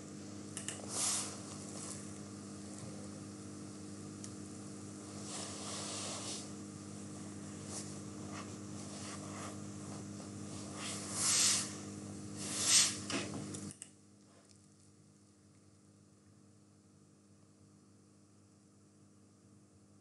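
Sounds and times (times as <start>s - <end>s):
electrical hum with hiss: 0.0s - 20.0s.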